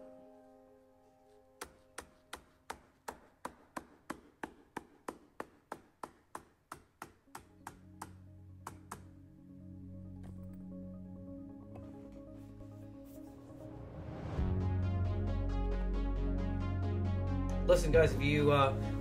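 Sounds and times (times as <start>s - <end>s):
quiet background music: 0.0s - 19.0s.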